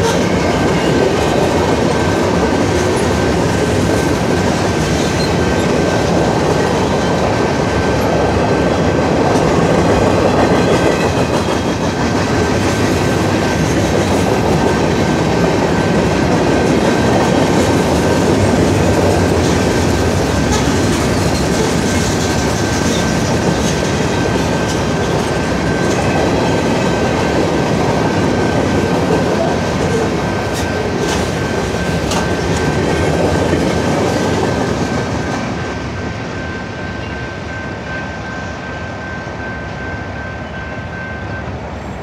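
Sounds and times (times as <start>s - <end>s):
crossing warning bell ringing: 0.0s - 42.0s
freight train rolling past: 0.0s - 42.0s.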